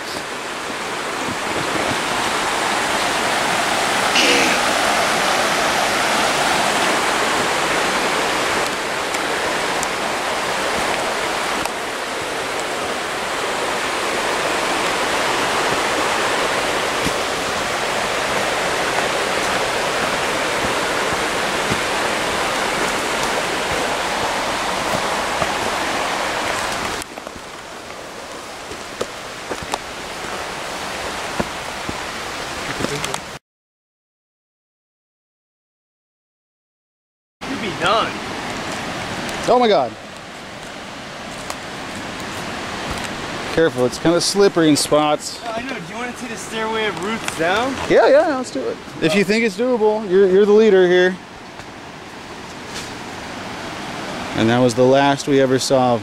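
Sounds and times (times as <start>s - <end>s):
water rushing over rocks: 0.0s - 33.4s, 37.4s - 56.0s.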